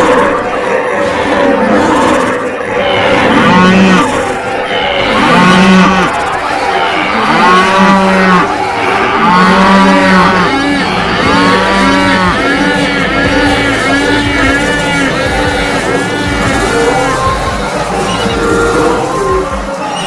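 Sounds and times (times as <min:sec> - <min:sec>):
cattle mooing: 0:00.0 - 0:20.0
steady noisy din: 0:00.0 - 0:20.0.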